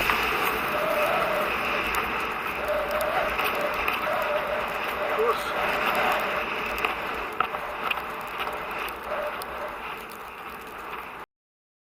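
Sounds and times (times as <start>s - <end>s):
rushing wind on microphone: 0.0s - 11.2s.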